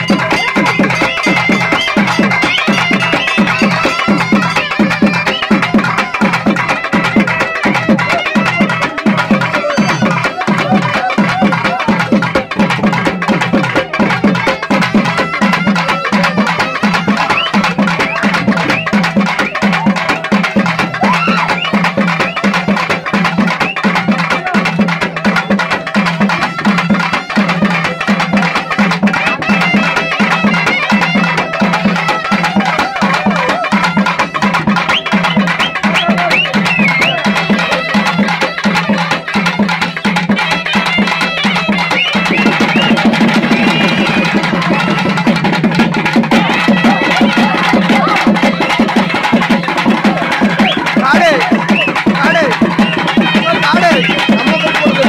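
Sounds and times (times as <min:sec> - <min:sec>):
fast barrel drumming: 0:00.0 - 0:55.0.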